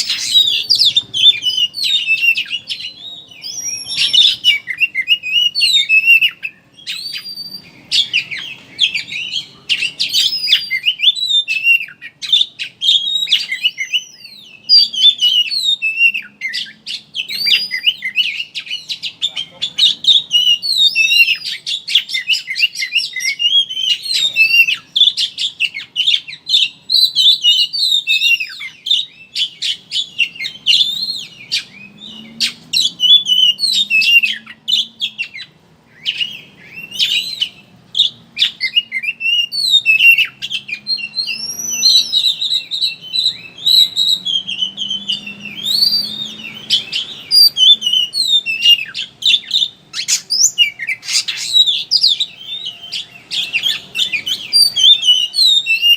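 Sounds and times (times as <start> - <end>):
bird singing twittering song: 0.0 - 55.9.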